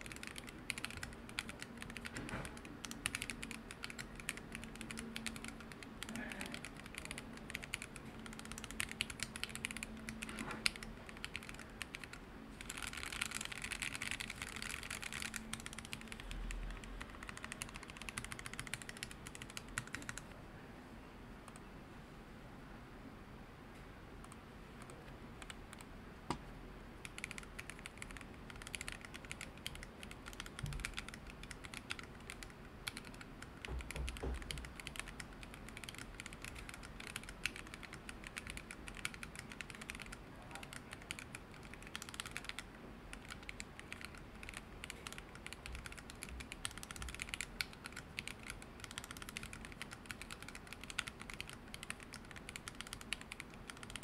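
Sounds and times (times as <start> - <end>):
fast typing on keyboard: 0.0 - 20.2, 27.0 - 54.0.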